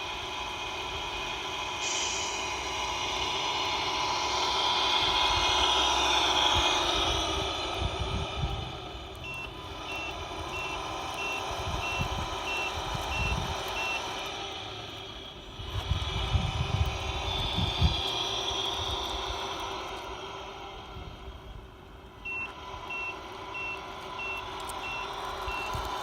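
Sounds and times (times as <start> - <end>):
simulated engine hum: 0.0 - 26.0
truck reversing beeps: 1.8 - 15.4, 17.3 - 26.0.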